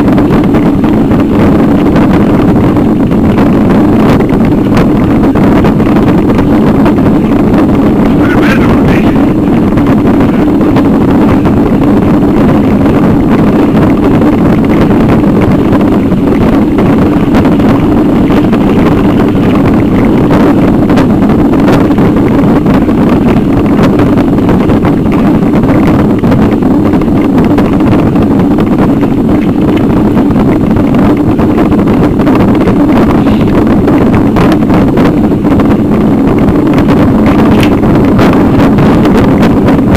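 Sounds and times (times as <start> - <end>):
camera rattling over cobblestones: 0.0 - 39.9
wind on microphone: 0.0 - 39.9.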